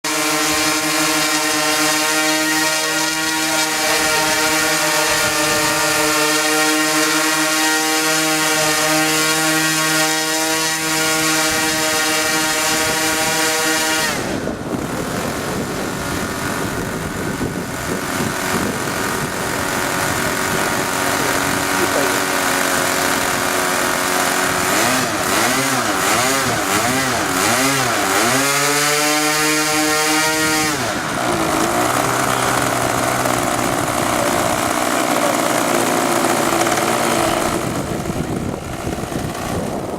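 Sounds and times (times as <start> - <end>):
model plane engines whining: 0.0 - 39.9.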